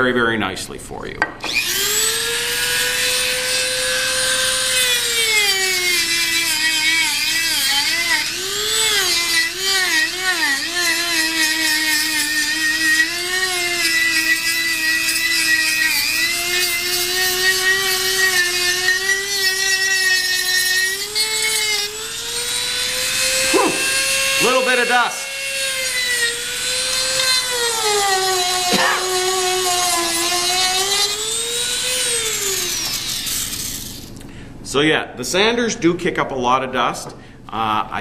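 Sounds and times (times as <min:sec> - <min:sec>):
rotary tool sanding wood: 0:01.4 - 0:34.1.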